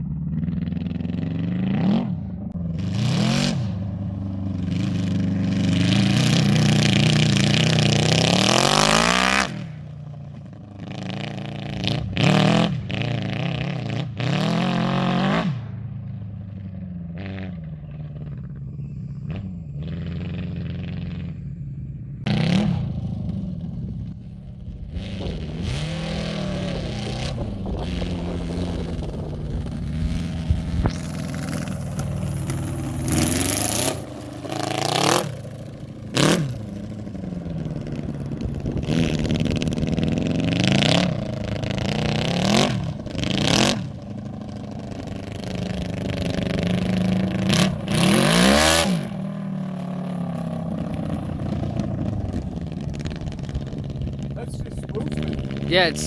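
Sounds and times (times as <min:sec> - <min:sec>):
quad bike engine revving: 0:00.0 - 0:56.0
wheels spinning in dirt: 0:00.0 - 0:56.0.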